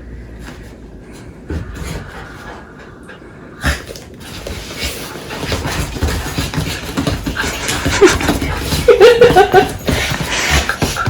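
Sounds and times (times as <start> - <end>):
breathy panting: 0.0 - 11.0.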